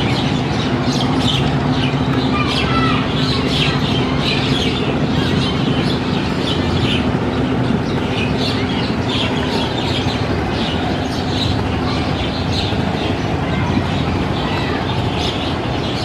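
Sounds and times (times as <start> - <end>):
birds chirping: 0.0 - 16.0
diesel engine humming: 0.0 - 16.0.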